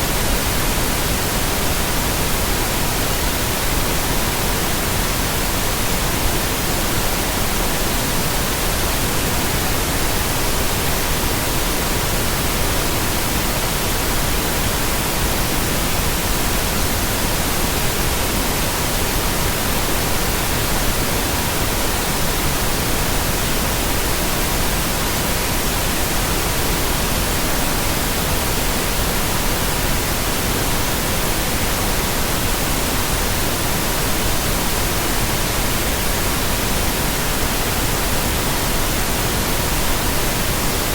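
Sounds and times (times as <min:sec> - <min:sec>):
pink noise: 0:00.0 - 0:40.9.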